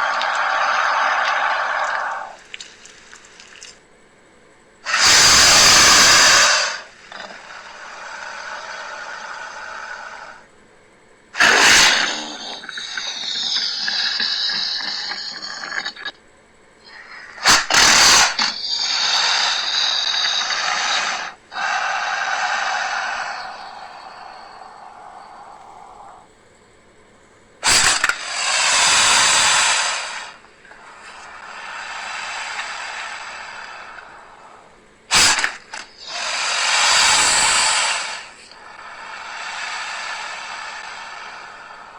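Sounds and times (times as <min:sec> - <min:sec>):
crocodile calls: 0:00.0 - 0:03.8, 0:04.8 - 0:10.5, 0:11.4 - 0:26.4, 0:27.6 - 0:41.9.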